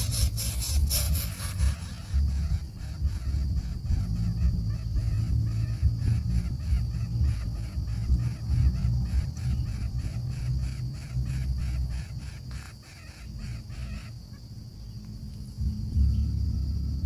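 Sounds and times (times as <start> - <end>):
baby birds begging calls: 0.0 - 14.5
low rumble: 0.0 - 17.0.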